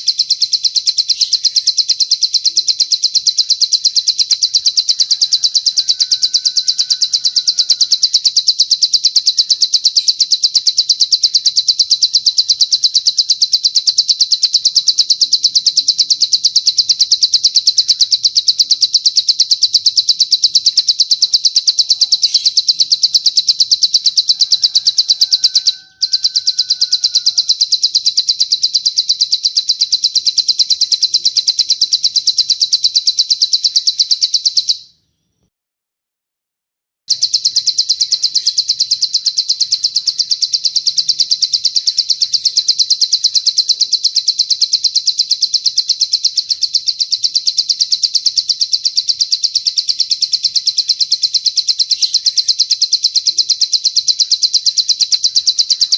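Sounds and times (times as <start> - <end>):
fast high-pitched bird trill: 0.0 - 35.4, 37.1 - 55.9.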